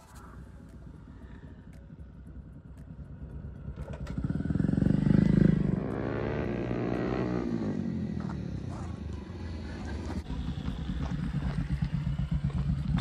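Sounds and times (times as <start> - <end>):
motorcycle passing by: 2.2 - 13.0.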